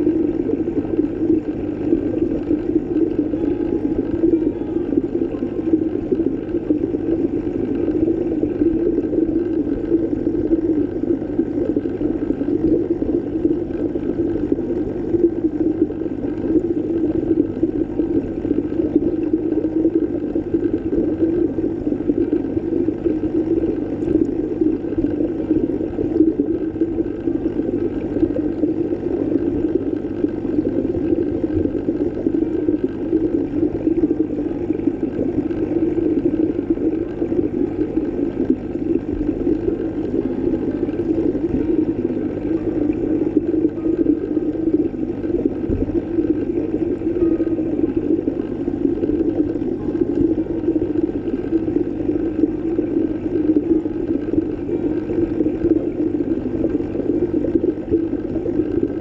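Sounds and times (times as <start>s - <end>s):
muffled underwater rush: 0.0s - 59.0s.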